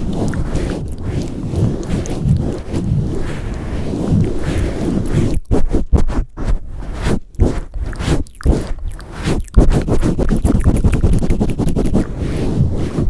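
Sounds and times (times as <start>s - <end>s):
microphone handling rubbing: 0.0s - 13.0s
muffled scrapes on microphone: 0.0s - 13.0s.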